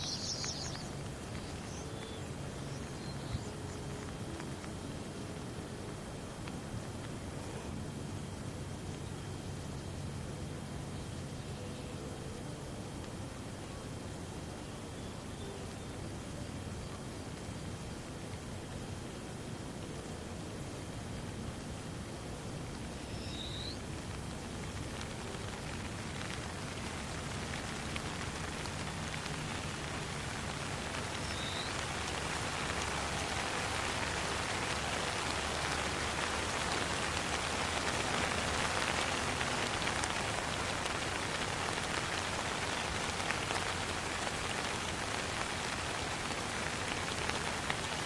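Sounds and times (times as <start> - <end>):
raindrop ticks: 0.0 - 10.2, 16.8 - 48.0
steady rain hiss: 0.0 - 48.0.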